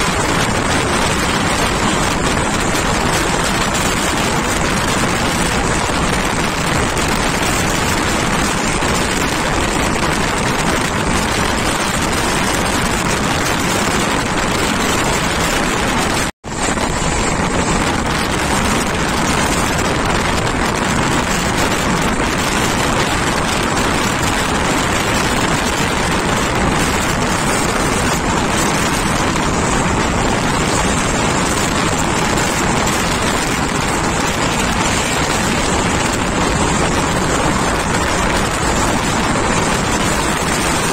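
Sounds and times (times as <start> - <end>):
wheel-on-rail noise: 0.0 - 40.9
wind rushing through door: 0.0 - 40.9.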